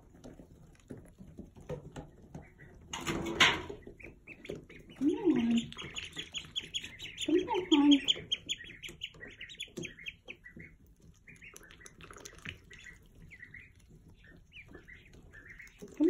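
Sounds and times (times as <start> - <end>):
ducklings peeping: 0.1 - 16.0.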